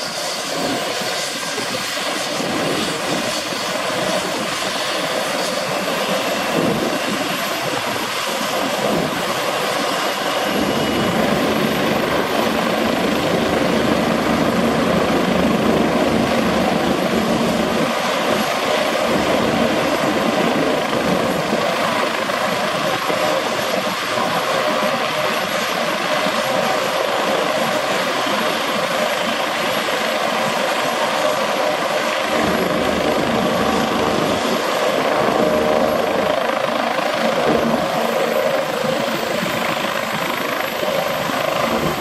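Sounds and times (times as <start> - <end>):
helicopter engine whine: 0.0 - 42.0
helicopter rotor beat: 0.0 - 42.0.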